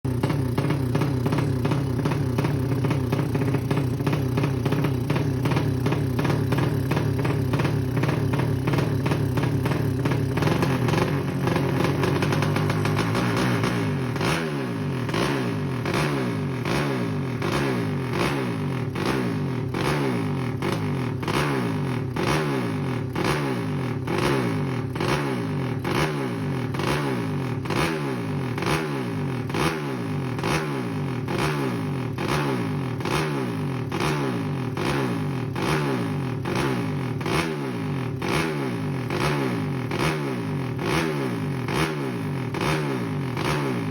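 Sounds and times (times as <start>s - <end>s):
motorcycle engine revving in blips: 0.0s - 43.9s.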